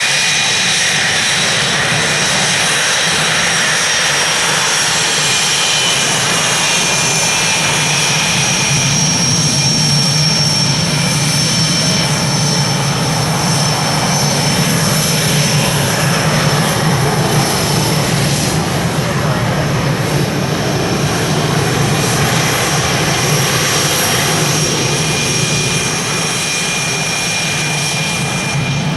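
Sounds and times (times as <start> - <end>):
jet engine running: 0.0 - 28.9.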